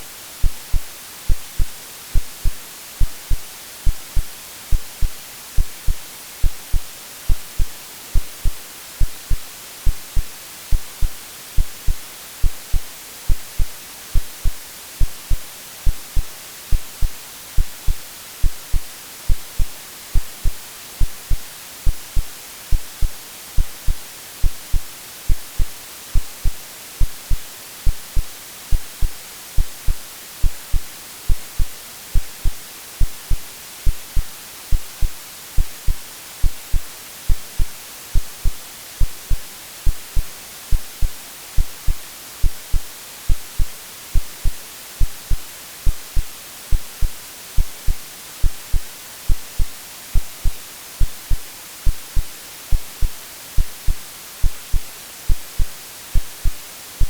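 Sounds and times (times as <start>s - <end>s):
white noise hiss: 0.0s - 57.0s
synthetic heartbeat thumps: 0.4s - 56.6s.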